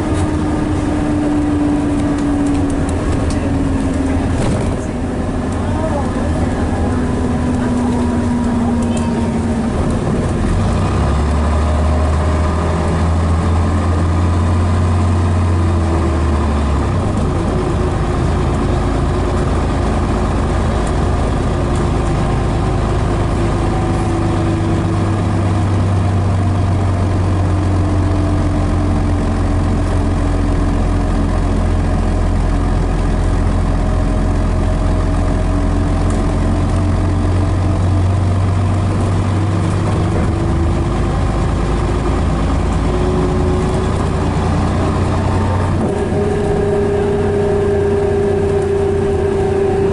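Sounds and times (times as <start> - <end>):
bus diesel engine idling: 0.0 - 49.9.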